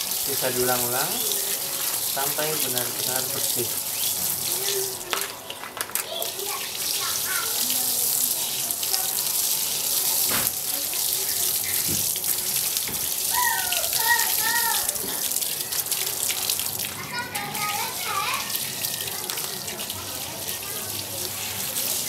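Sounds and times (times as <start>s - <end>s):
garden hose spraying water: 0.0s - 22.0s
water splashing on wet ground: 0.0s - 22.0s.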